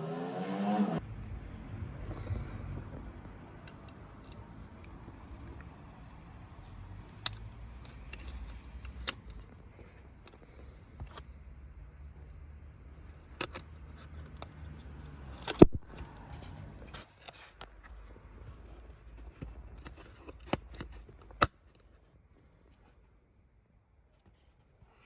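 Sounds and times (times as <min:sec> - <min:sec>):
low steady hum: 0:00.8 - 0:24.2.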